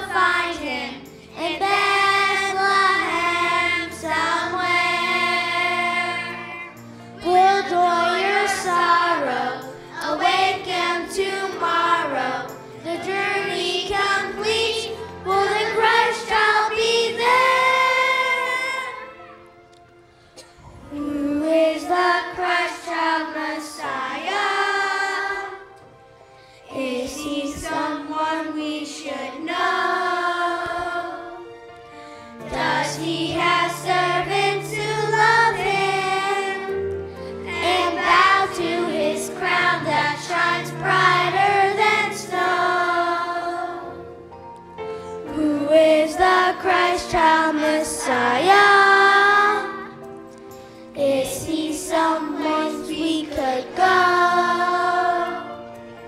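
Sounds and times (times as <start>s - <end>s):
children's choir singing: 0.0s - 19.7s, 20.4s - 26.0s, 26.6s - 44.4s, 45.2s - 56.0s.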